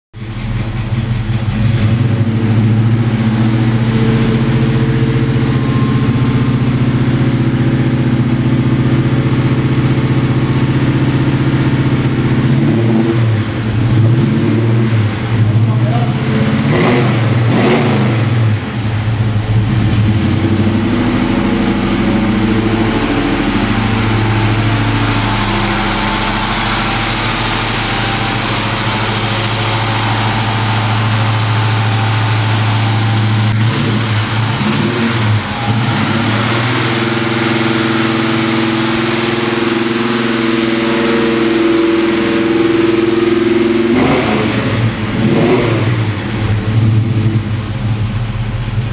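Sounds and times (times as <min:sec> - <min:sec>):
car engine idling and revving: 0:00.1 - 0:48.9.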